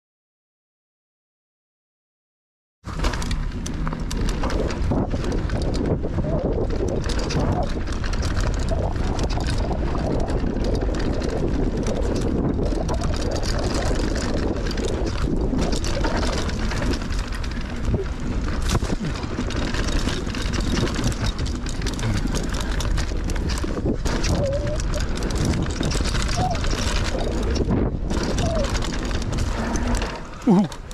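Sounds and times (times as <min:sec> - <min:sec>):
bike clicks and rattles: 0:02.9 - 0:30.9
tyres rolling on dirt trail: 0:02.9 - 0:30.9
wind over microphone: 0:02.9 - 0:30.9.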